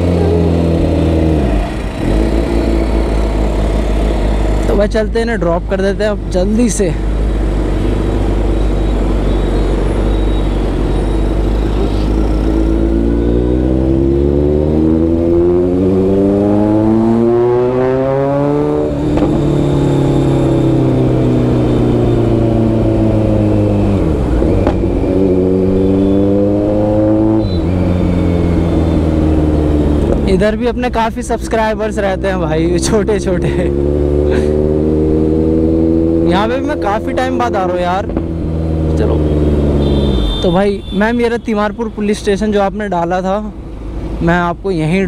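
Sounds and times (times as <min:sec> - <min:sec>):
motorcycle engine accelerating: 0:00.0 - 0:04.8, 0:08.3 - 0:40.4.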